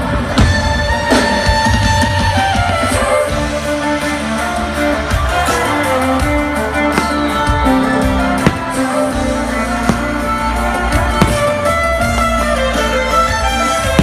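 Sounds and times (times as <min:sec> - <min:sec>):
backing band and beat: 0:00.0 - 0:14.0
electric violin holding long notes: 0:00.0 - 0:14.0.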